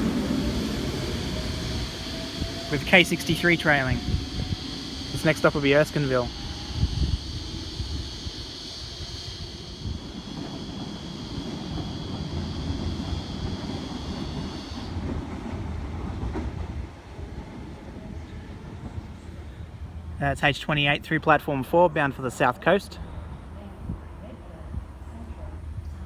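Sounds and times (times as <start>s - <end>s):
high train whine: 0.0s - 26.0s
train rumble: 0.0s - 26.0s.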